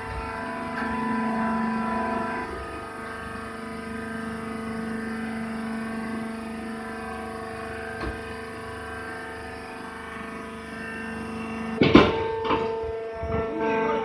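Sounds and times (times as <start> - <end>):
baler motor and pump hum: 0.0 - 14.0.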